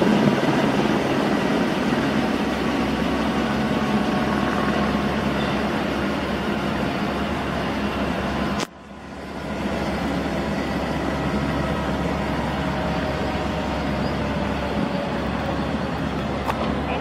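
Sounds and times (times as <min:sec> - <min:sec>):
helicopter engine whine: 0:00.0 - 0:17.0
helicopter rotor noise: 0:00.0 - 0:17.0.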